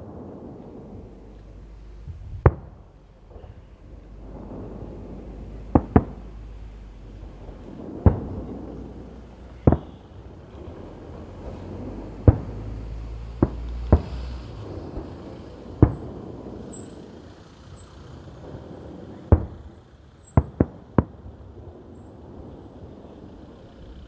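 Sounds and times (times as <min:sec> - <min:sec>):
low rumble: 0:00.0 - 0:20.2
fireworks sharp bangs: 0:00.0 - 0:24.0
steady background noise: 0:00.0 - 0:24.0.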